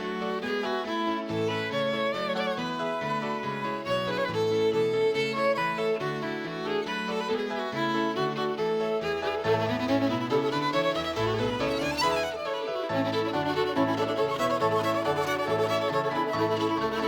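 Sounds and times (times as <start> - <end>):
fiddle music: 0.0 - 17.0.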